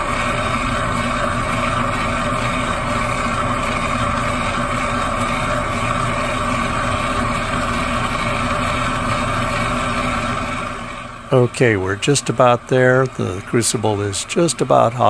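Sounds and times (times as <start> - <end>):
gas torch burning: 0.0 - 15.0.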